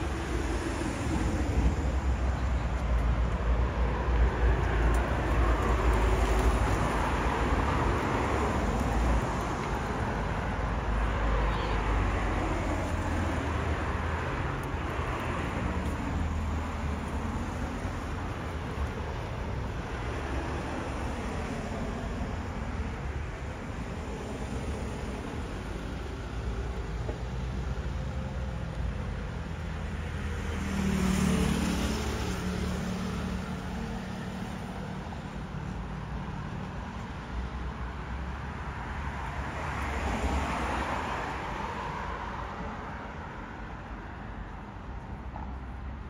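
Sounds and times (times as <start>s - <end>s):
steady traffic noise: 0.0s - 46.0s.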